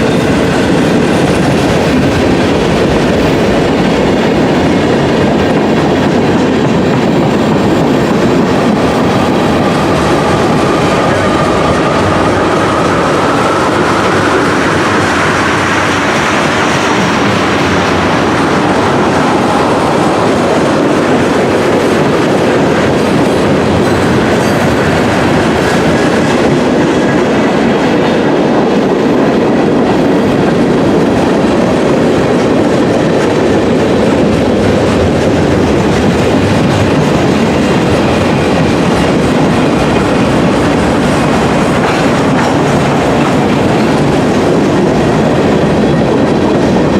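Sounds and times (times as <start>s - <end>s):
freight train wheels on rails: 0.0s - 46.9s.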